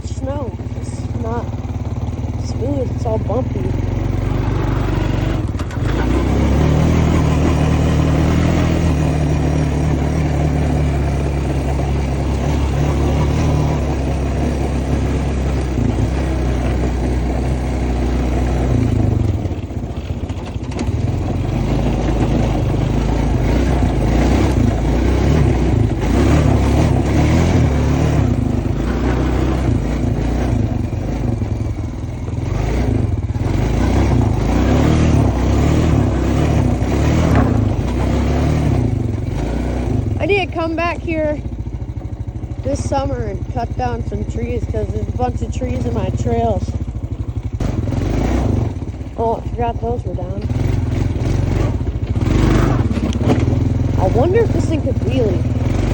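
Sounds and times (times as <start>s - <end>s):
atv engine under throttle: 0.0s - 55.9s.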